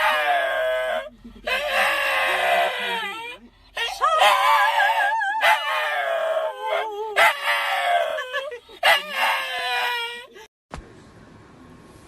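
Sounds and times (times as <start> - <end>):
dog howling: 0.0 - 3.4, 4.0 - 10.3.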